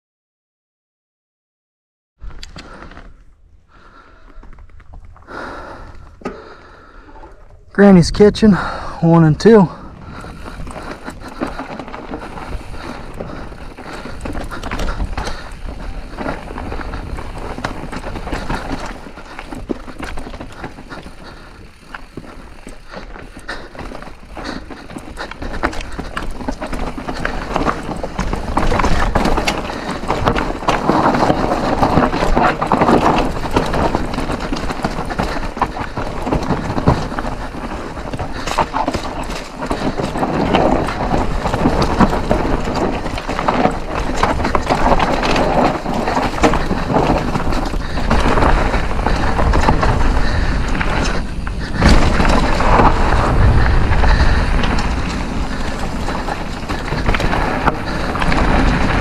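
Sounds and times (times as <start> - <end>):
tyres crunching over dirt: 2.2 - 59.0
wind buffeting microphone: 9.4 - 59.0.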